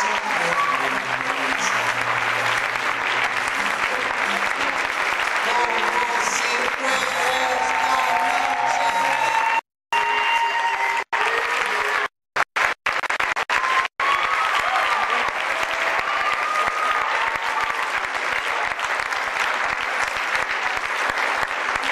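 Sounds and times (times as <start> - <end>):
audience applauding: 0.0 - 21.9.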